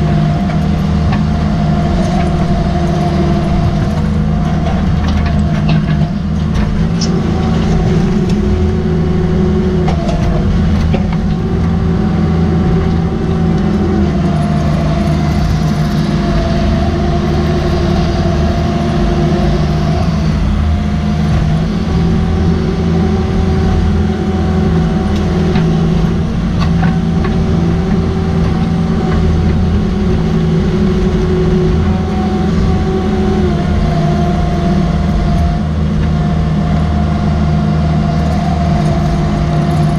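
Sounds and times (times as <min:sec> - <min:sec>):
diesel engine running: 0:00.0 - 0:39.9
hydraulic whine: 0:00.0 - 0:39.9.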